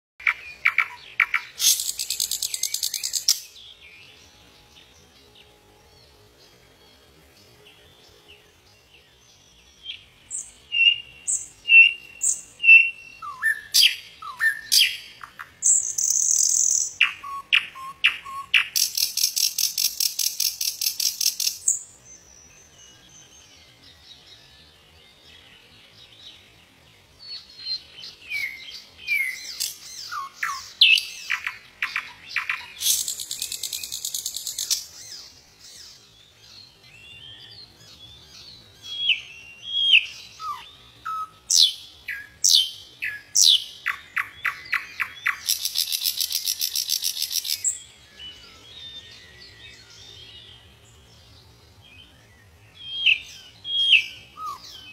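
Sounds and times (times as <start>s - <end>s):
nightingale singing: 0.2s - 54.9s.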